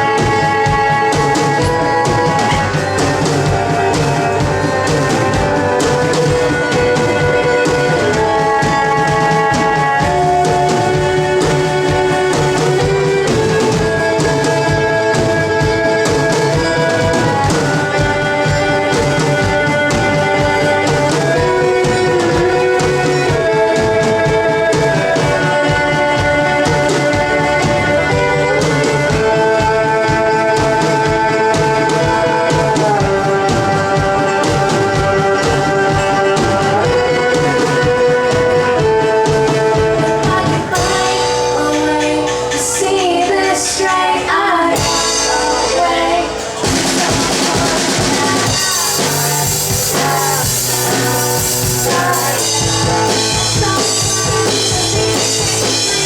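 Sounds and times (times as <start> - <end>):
drum kit beat: 0.0 - 56.0
guitars playing chords: 0.0 - 56.0.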